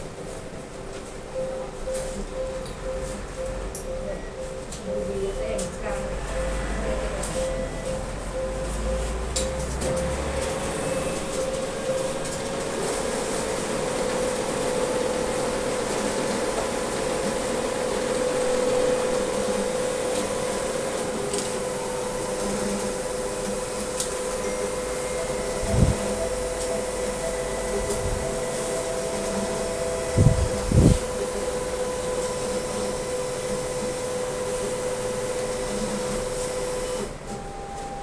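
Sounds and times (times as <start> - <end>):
machine hum and whine: 0.0 - 38.0.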